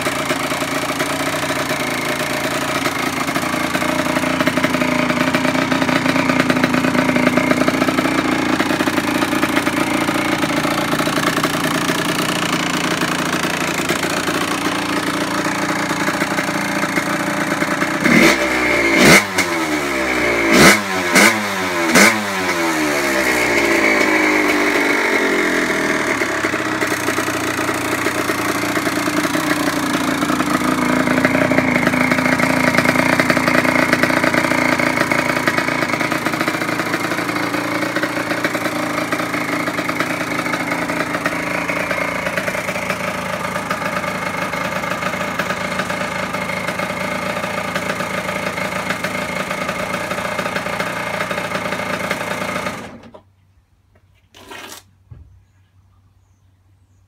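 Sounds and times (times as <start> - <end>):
two-stroke motorcycle engine idling: 0.0 - 53.3.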